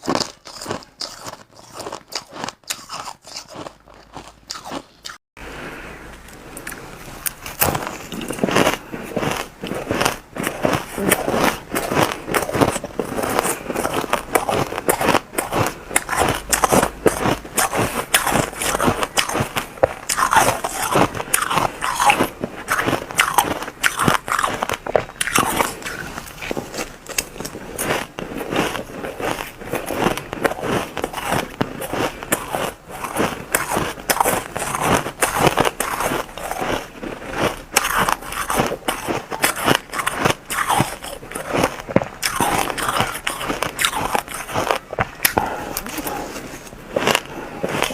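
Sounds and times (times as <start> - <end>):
crushed ice being chewed: 0.0 - 5.2, 6.3 - 47.9.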